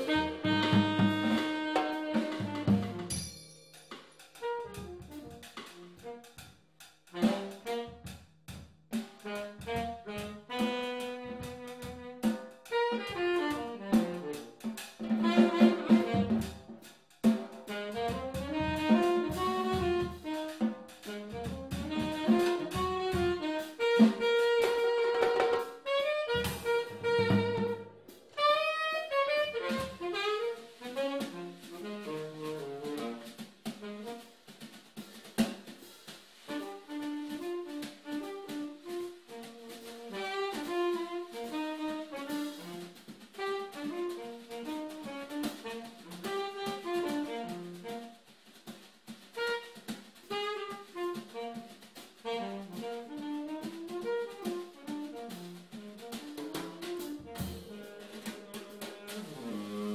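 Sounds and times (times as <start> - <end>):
saxophone playing jazz: 0.0 - 3.2, 4.4 - 8.2, 8.9 - 59.9
drum kit played with sticks: 0.0 - 59.9.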